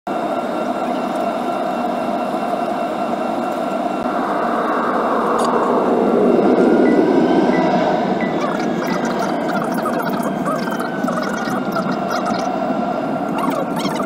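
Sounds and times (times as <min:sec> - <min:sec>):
jet engines humming with whine: 0:00.1 - 0:14.0.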